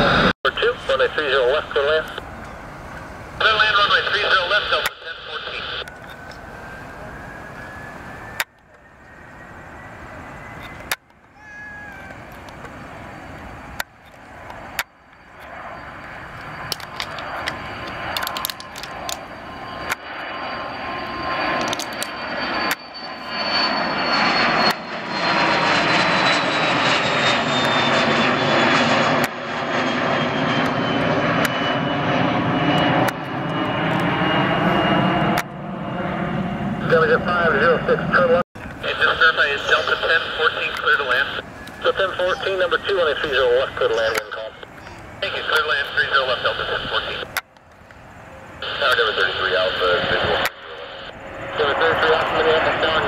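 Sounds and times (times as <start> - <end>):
airliner engines whining: 0.0 - 53.0.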